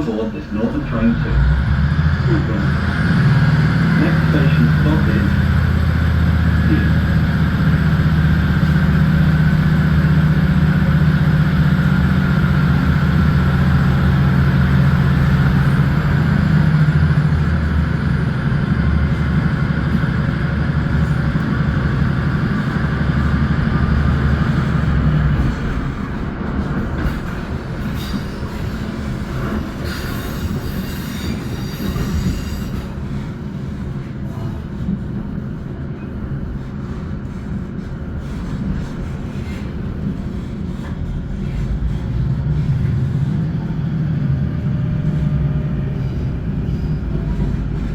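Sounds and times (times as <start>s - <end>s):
train engine drone: 0.0s - 47.9s
wheels rumbling on rails: 0.0s - 47.9s.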